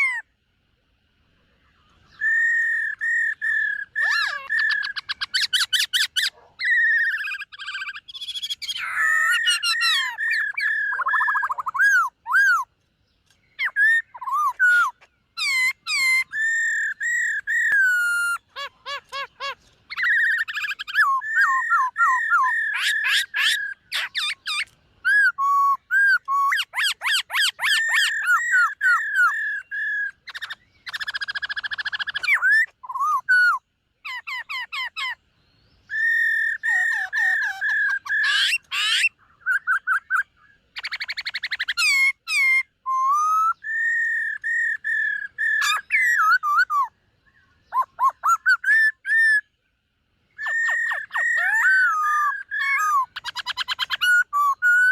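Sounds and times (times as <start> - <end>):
bird singing whistled song: 0.0 - 0.4, 1.6 - 54.9.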